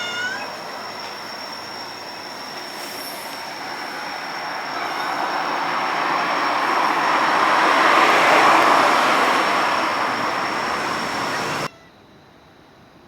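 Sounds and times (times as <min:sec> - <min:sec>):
train passing on rails: 0:00.0 - 0:13.0.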